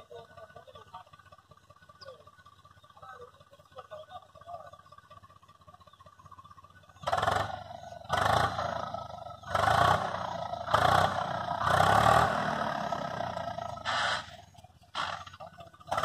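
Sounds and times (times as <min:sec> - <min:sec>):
tractor engine revving: 0:00.0 - 0:16.0.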